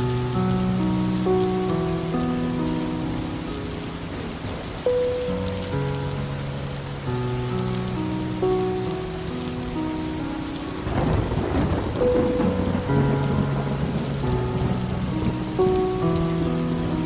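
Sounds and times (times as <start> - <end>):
soft slow music: 0.0 - 17.0
steady rain falling: 0.0 - 17.0.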